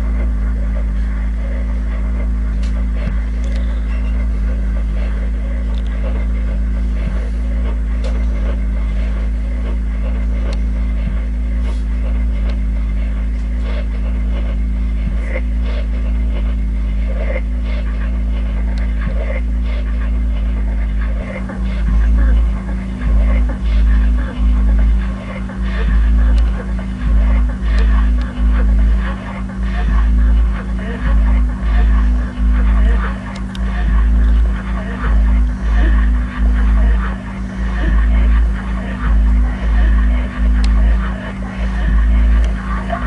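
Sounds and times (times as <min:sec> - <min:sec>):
glitchy crackles and clicks: 0:00.0 - 0:43.0
low electronic drone: 0:00.0 - 0:43.0.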